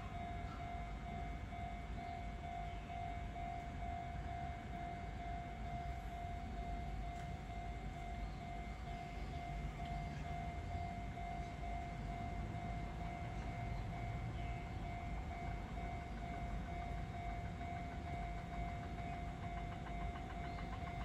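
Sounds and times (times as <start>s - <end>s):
level crossing alarm ringing: 0.0s - 21.0s.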